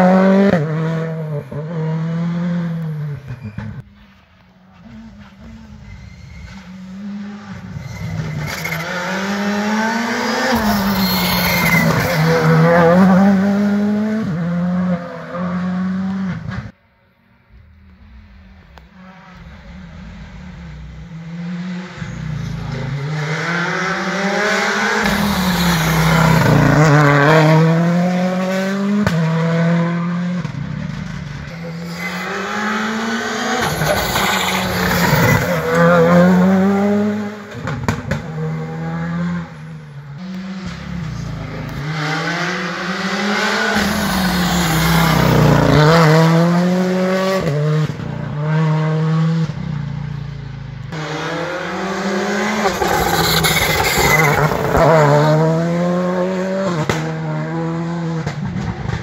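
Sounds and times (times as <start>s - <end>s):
rally car engines revving: 0.0s - 16.8s, 17.8s - 59.0s.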